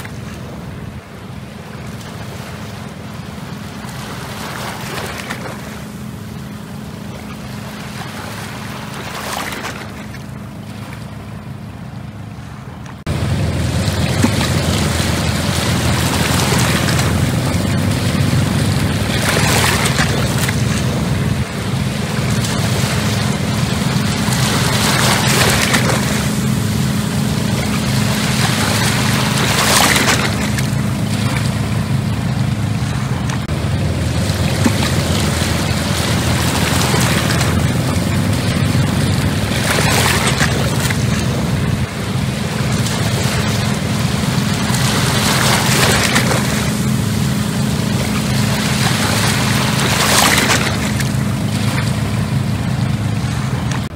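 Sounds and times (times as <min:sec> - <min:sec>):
diesel boat engine humming: 0:00.0 - 0:53.9.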